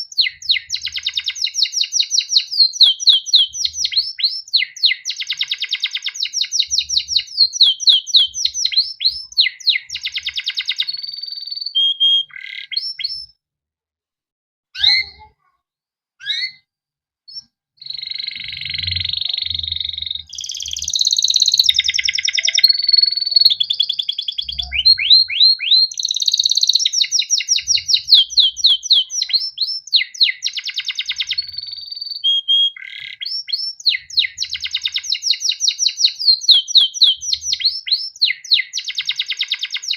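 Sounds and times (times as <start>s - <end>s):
canary singing trills: 0.0s - 13.4s, 14.8s - 15.5s, 16.2s - 16.7s, 17.3s - 39.9s.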